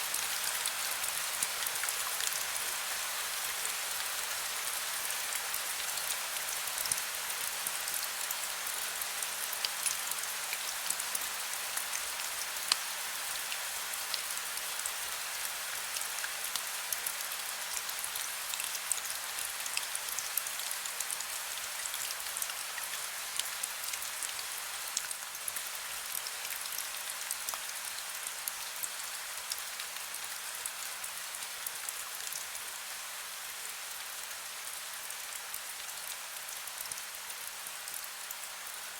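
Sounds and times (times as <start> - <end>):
raindrops pattering on a surface: 0.1 - 38.8.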